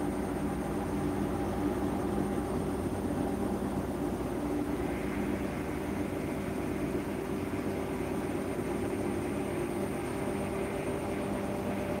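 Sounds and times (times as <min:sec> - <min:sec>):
faint high whine: 0:00.0 - 0:12.0
washing machine humming: 0:00.0 - 0:12.0.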